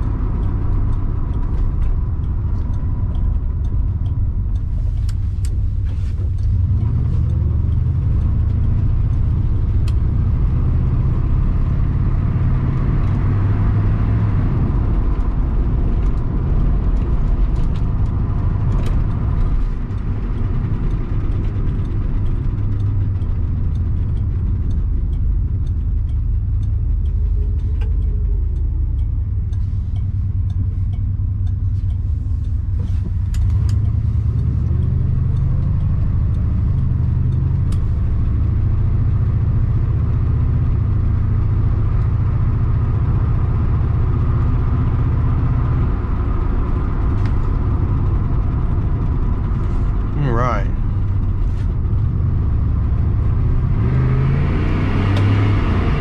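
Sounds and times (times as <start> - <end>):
car engine rumble: 0.0 - 56.0
tyre and road noise: 0.0 - 56.0.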